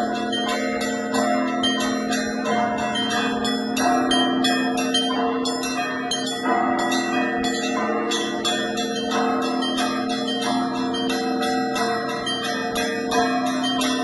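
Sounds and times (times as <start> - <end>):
church bells struck by hand: 0.0 - 14.0
sustained ringing of large bells: 0.0 - 14.0.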